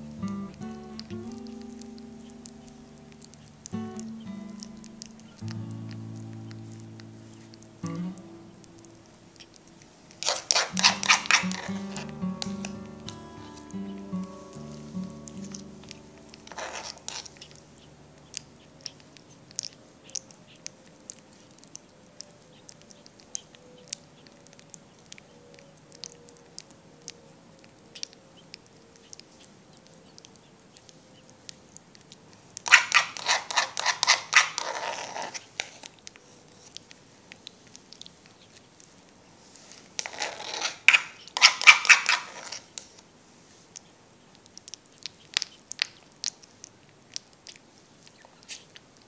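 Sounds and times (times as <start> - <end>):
crackling noise: 0.0 - 49.0
monkeys eating wet smacks: 0.0 - 49.0.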